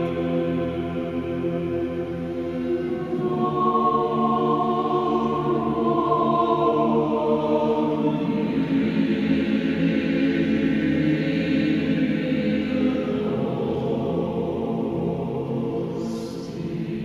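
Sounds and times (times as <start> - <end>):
choir singing chant: 0.0 - 17.0.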